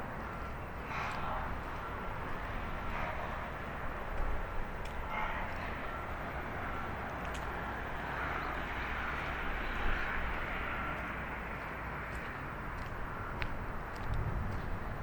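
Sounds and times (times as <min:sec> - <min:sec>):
outdoor background hush: 0:00.0 - 0:15.0.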